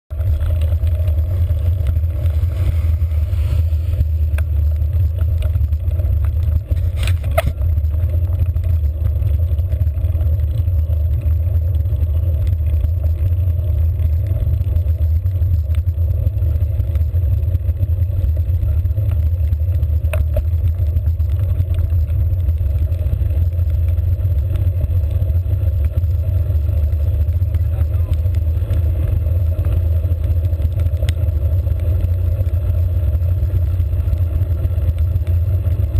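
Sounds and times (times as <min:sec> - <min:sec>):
wind and road rumble: 0:00.0 - 0:35.9.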